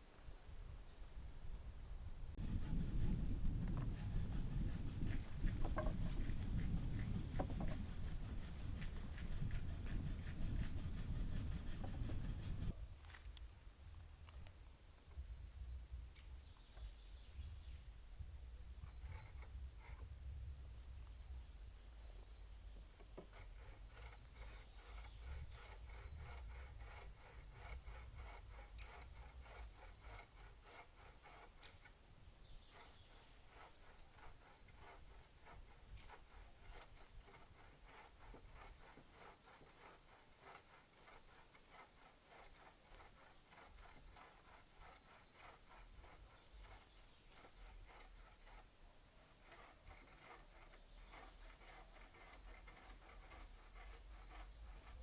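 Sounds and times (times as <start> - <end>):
hand tool scraping wood: 2.4 - 13.4, 18.6 - 20.4, 22.1 - 55.0.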